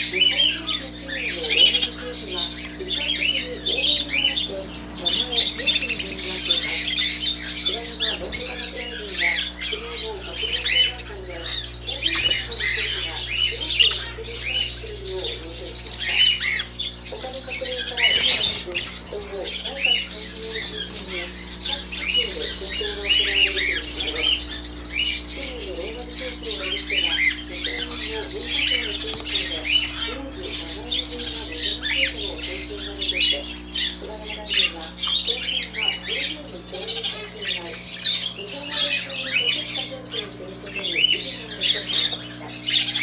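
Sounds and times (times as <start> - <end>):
budgerigars chattering: 0.0 - 43.0
steady low hum: 0.0 - 43.0.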